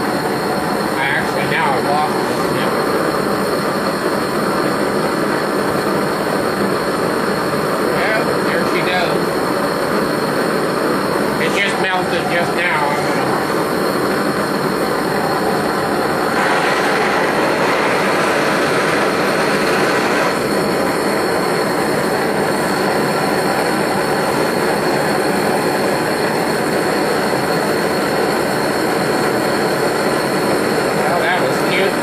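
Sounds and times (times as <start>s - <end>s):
propane torch burning: 0.0s - 32.0s.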